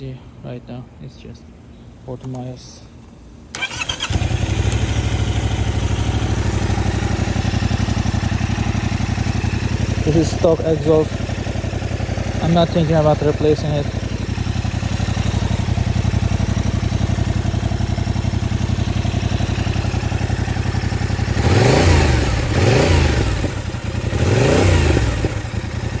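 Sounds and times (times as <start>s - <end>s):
motorcycle engine idling and revving: 3.0s - 26.0s.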